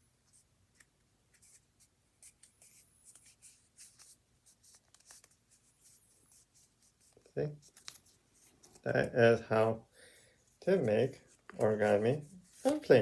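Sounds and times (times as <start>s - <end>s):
paper being folded and creased: 0.3s - 9.0s, 10.5s - 13.0s.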